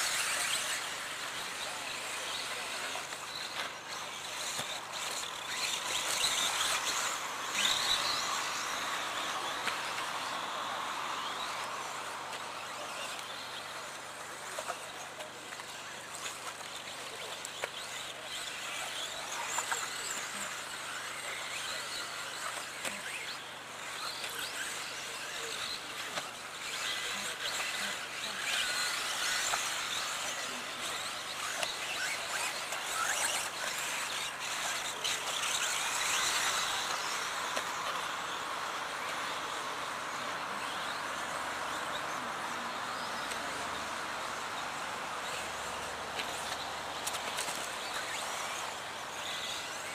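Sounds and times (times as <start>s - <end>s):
rc car motor whines: 0.0s - 49.9s
steady outdoor noise: 0.0s - 49.9s.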